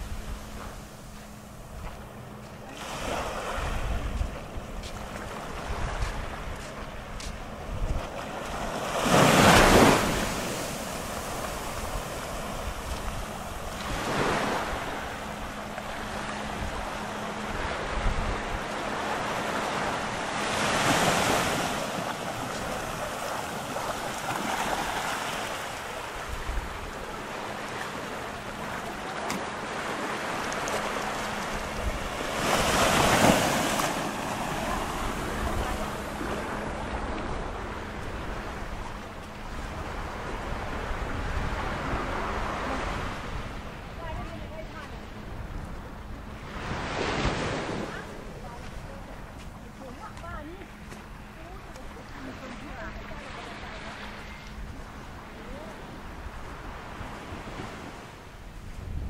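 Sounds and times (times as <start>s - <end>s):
waves breaking on beach: 0.0s - 59.0s
wind rumble on microphone: 0.0s - 59.0s.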